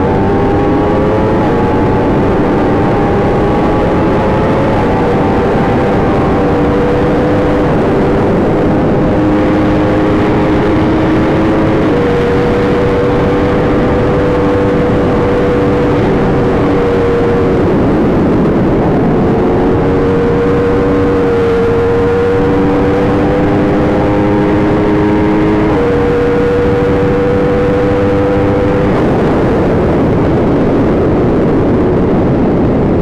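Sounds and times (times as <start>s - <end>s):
motorcycle engine running: 0.0s - 33.0s
wind rush: 0.0s - 33.0s.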